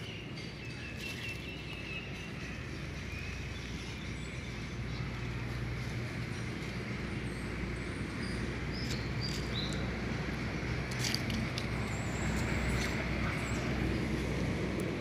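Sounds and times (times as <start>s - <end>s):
low outdoor rumble: 1.5s - 15.0s.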